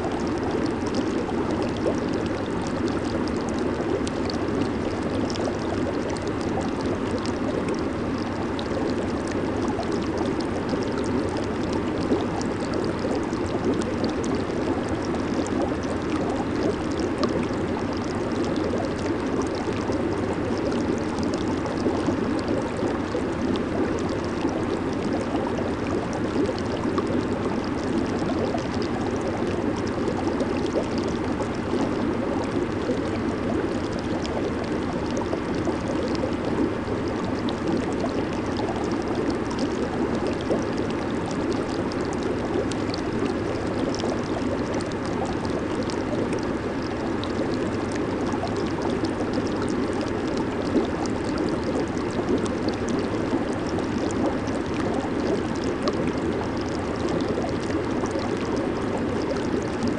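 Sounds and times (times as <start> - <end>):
hot tub water churning and bubbling: 0.0 - 59.9.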